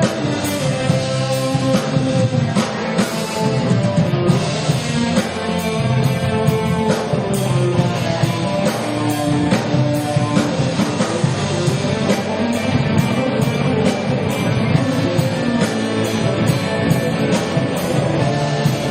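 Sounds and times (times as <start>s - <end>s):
live rock band playing: 0.0s - 18.9s.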